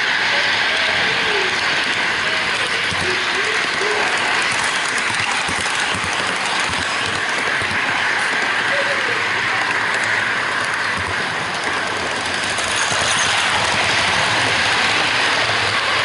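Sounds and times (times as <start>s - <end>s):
small metal wheels rolling on track: 0.0s - 16.0s.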